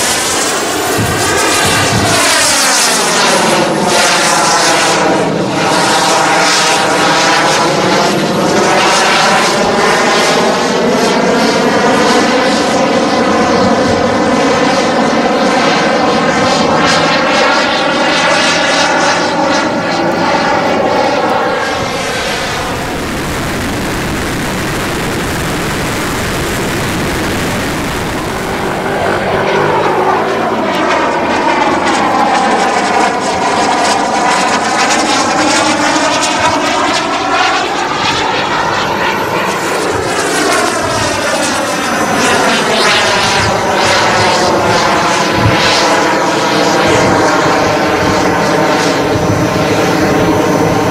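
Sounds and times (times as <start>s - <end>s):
model jet turbine whine: 0.0s - 50.9s.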